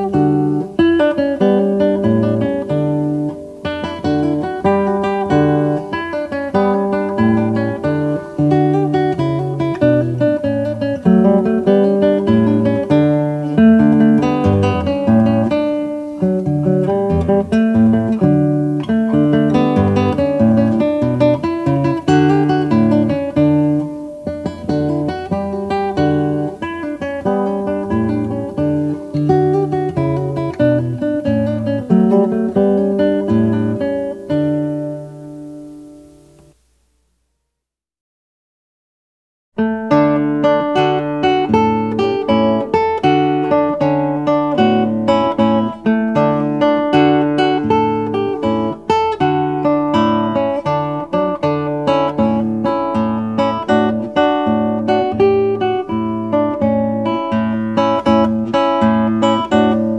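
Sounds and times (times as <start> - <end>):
acoustic guitar plucking: 0.0 - 36.8, 39.6 - 59.9.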